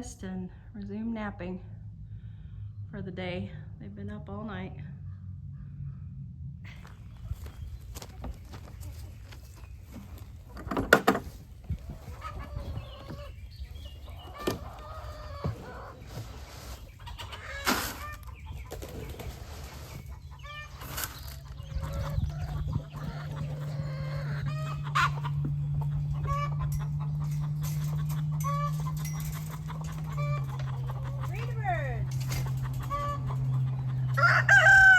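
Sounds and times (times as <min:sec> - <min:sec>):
steady low hum: 0:00.0 - 0:34.9
chickens clucking: 0:06.7 - 0:34.9.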